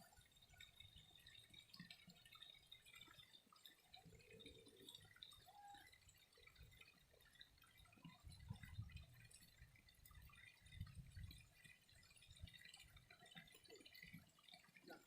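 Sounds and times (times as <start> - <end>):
faint trickling water: 0.0 - 15.0
water drips and splashes: 0.0 - 15.0.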